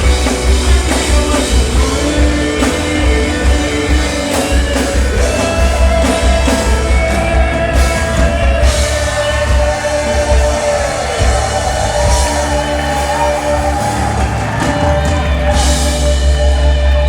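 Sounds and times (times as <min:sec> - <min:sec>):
bass guitar: 0:00.0 - 0:17.0
drum kit: 0:00.0 - 0:17.0
electric guitar: 0:00.0 - 0:17.0
person singing: 0:00.0 - 0:17.0.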